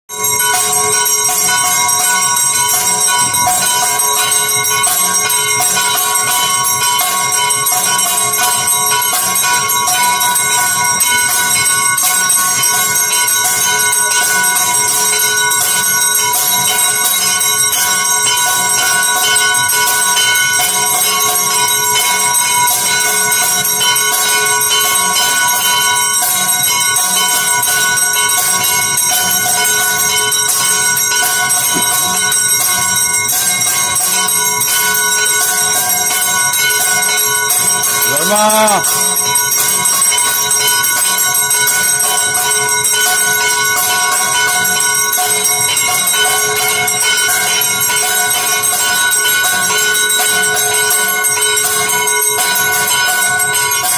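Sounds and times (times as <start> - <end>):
metal temple bells clanging: 0.1 - 53.9.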